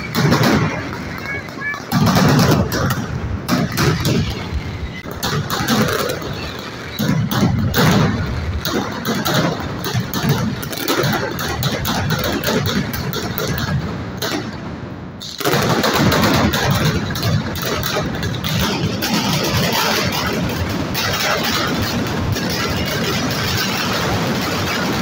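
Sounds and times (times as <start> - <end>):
firecrackers banging rapidly: 0.0 - 25.0.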